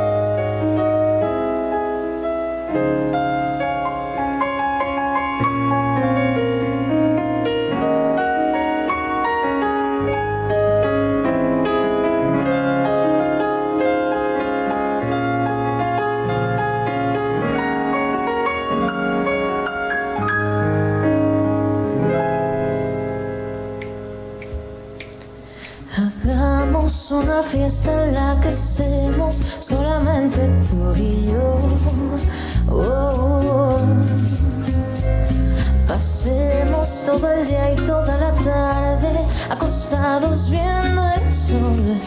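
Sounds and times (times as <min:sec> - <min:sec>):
piano playing slow chords: 0:00.0 - 0:42.0.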